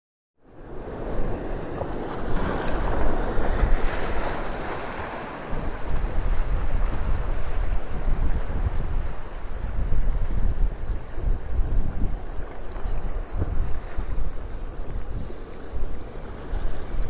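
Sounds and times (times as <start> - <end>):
ocean surf washing onto beach: 0.5 - 17.0
wind buffeting microphone: 0.6 - 17.0.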